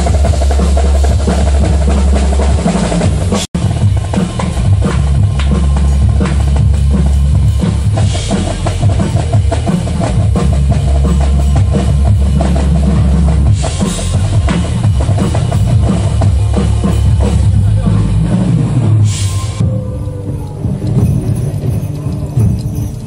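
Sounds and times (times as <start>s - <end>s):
drum set played fast: 0.0s - 23.0s.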